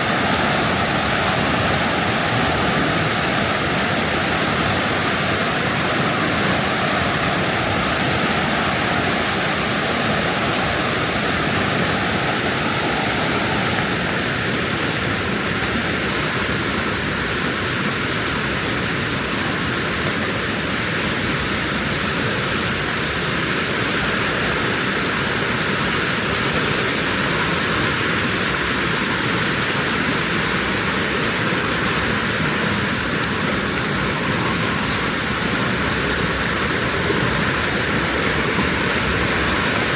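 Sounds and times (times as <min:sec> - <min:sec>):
white water rushing: 0:00.0 - 0:39.9.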